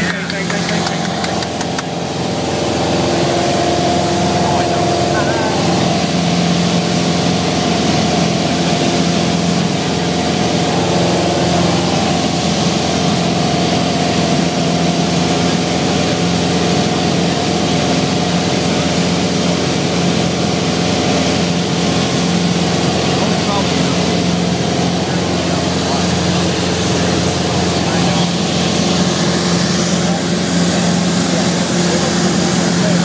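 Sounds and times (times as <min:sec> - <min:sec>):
aircraft engine and propeller droning: 0:00.0 - 0:33.0.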